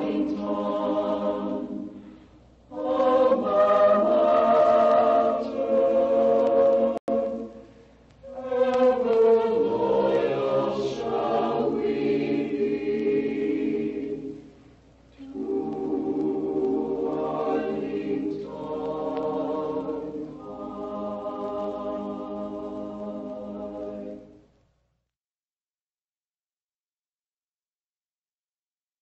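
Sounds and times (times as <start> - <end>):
choir singing: 0.0 - 14.5, 15.2 - 24.4.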